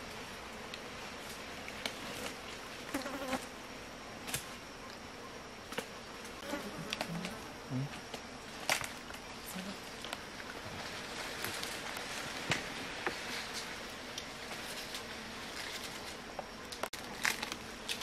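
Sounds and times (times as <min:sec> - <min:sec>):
steady hiss: 0:00.0 - 0:18.0
insect buzzing: 0:01.9 - 0:16.7.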